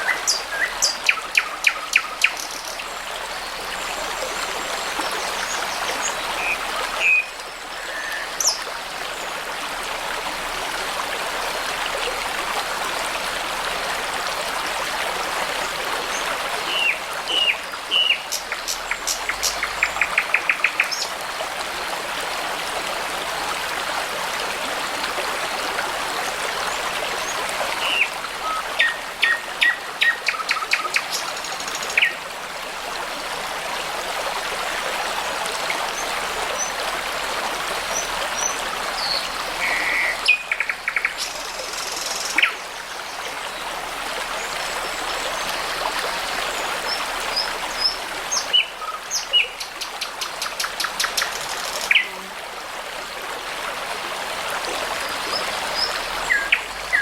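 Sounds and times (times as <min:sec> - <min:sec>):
brook running: 0:00.0 - 0:57.0.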